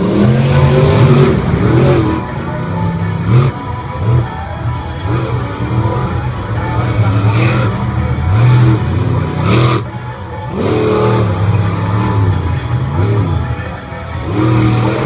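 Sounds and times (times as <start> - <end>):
vehicle engines revving: 0.0 - 15.0.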